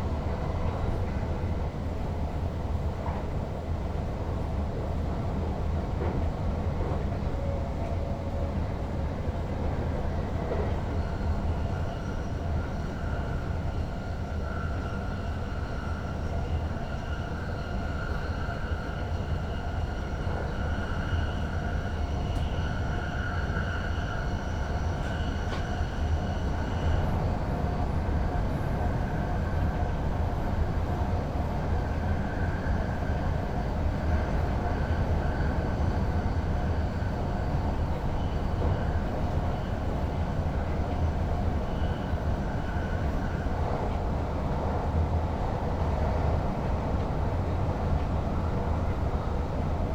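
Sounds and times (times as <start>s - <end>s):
train low rumble: 0.0s - 49.9s.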